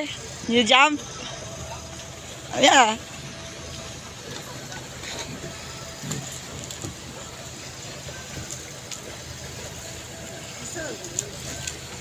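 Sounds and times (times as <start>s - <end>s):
boat engine idling: 0.0s - 12.0s
hiss of wind and water: 0.0s - 12.0s.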